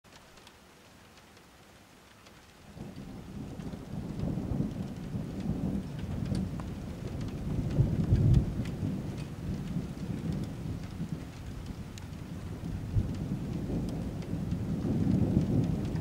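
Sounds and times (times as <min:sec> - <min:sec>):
rain falling: 0:00.1 - 0:16.0
single raindrops ticking: 0:00.1 - 0:16.0
rolling thunder: 0:02.7 - 0:16.0.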